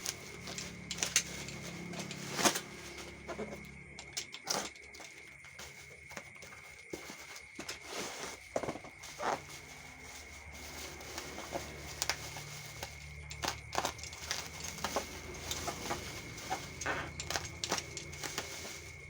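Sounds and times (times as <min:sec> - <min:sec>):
packaging clicks and rustles: 0:00.0 - 0:19.0.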